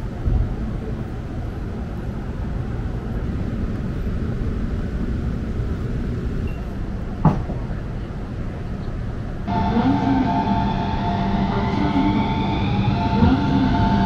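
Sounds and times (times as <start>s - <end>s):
tram rumbling on track: 0.0s - 14.0s.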